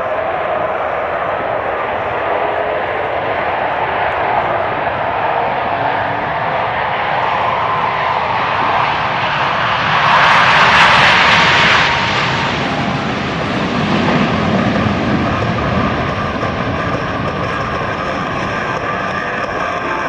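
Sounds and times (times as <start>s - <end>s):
jet roar: 0.0s - 20.0s.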